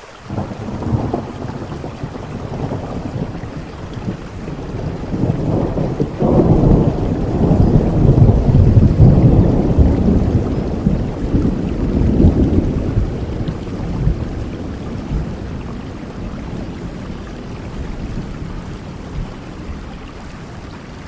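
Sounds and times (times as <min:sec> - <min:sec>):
steady rain: 0:00.0 - 0:21.0
thunder rumbling: 0:00.3 - 0:21.0.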